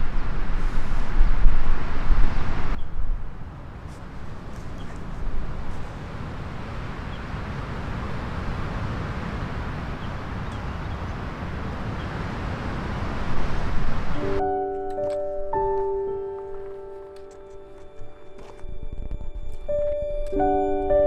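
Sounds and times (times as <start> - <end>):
strong wind buffeting microphone: 0.0 - 14.4, 18.0 - 21.0.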